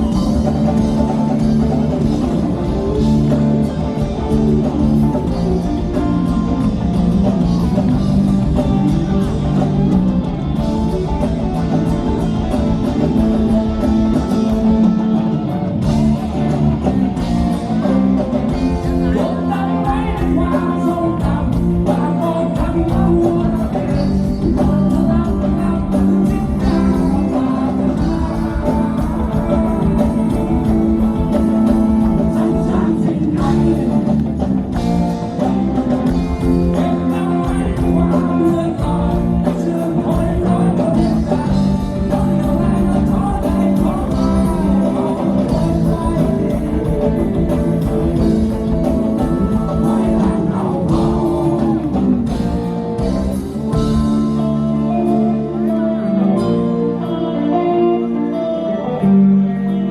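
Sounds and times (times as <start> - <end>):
person singing: 0.0 - 59.9
rock band playing live: 0.0 - 59.9.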